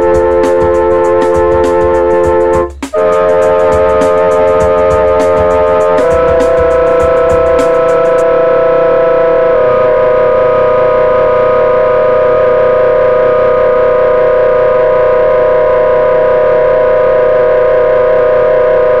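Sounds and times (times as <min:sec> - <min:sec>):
sustained instrumental chord: 0:00.0 - 0:18.6.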